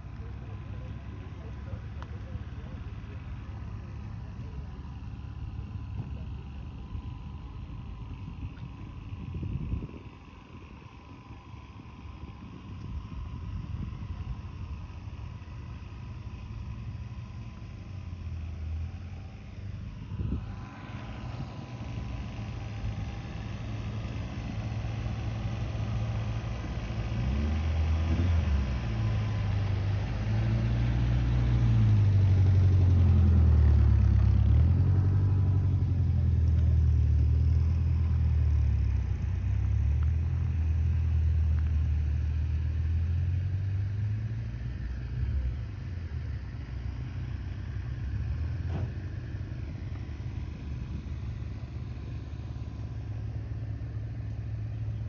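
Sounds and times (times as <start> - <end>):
car engine rumbling: 0.0 - 55.0.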